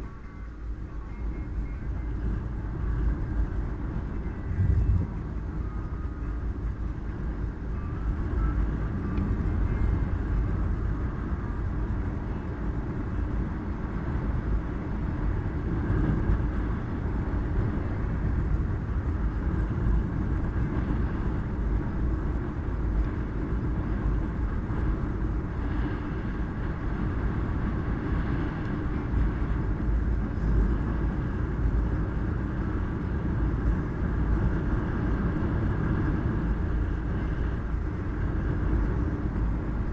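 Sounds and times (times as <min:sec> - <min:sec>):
car driving interior rumble: 0:00.0 - 0:39.9.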